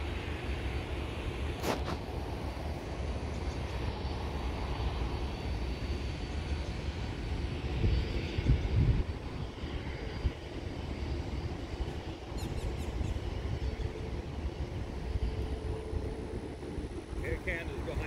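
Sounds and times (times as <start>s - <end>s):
distant jet airliner roar: 0.0s - 18.0s.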